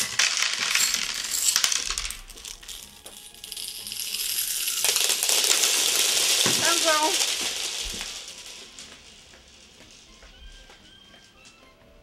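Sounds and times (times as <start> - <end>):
hard candies rattling in plastic: 0.0 - 10.6.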